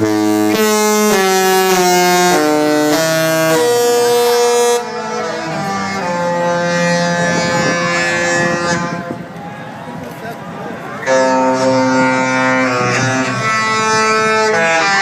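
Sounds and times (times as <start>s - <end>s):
ship horns playing a tune: 0.0s - 15.0s.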